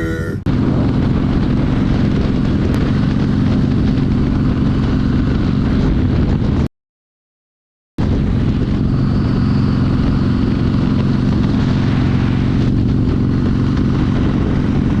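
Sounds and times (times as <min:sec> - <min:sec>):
motorcycle engine running: 0:00.5 - 0:06.6, 0:08.1 - 0:15.0.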